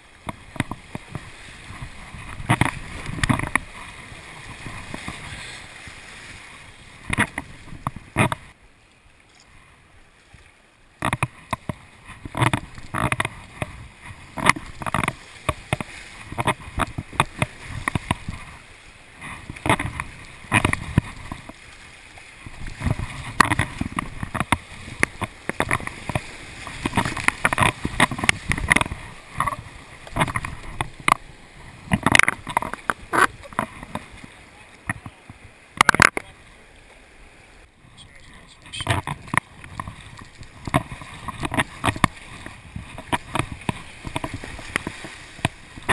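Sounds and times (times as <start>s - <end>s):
paddle splashes: 0.0s - 45.9s.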